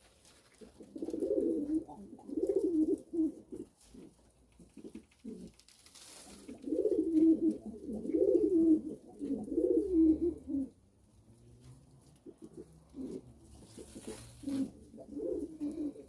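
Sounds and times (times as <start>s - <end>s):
pigeon cooing: 0.0s - 5.6s, 6.3s - 10.8s, 11.4s - 16.0s.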